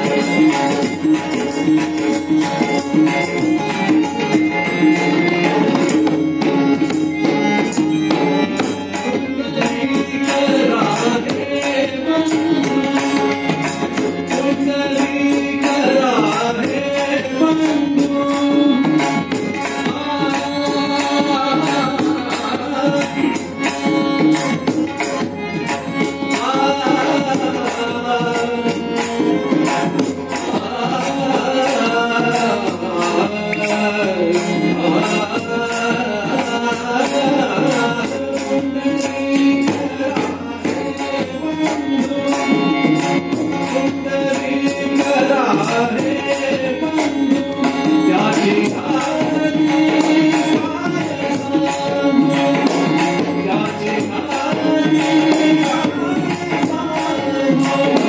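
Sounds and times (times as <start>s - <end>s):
harmonium chords: 0.0s - 58.0s
man singing devotional song: 0.0s - 58.0s
tabla drumming: 0.0s - 58.0s.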